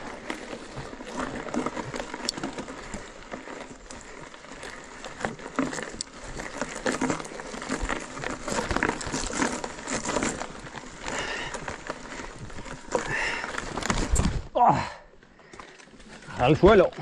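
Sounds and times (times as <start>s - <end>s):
mountain bike on rough trail: 0.0s - 17.0s.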